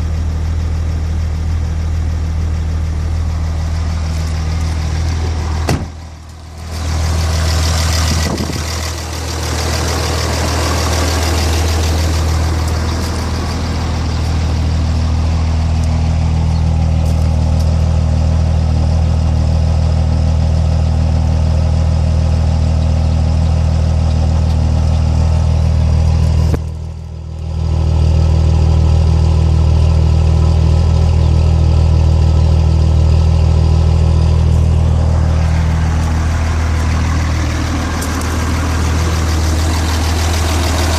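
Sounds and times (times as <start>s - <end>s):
diesel truck engine idling roughly: 0.0s - 40.9s.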